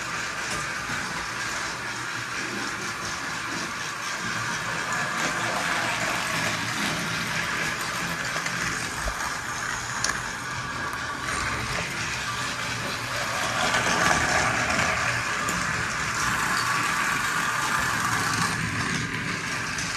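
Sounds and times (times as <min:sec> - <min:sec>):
toy train motor whirring: 0:00.0 - 0:19.9
wheels clicking over track: 0:00.0 - 0:19.9.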